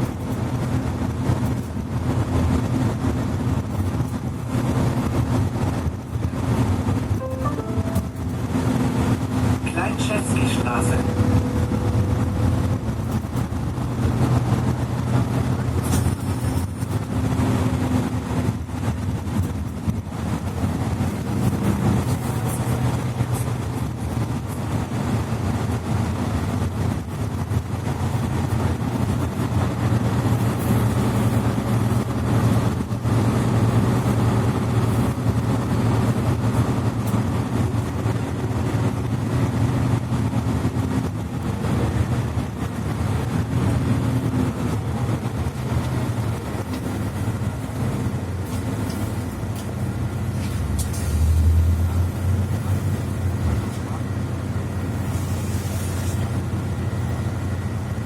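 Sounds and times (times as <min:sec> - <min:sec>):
bus engine low drone: 0:00.0 - 0:58.0.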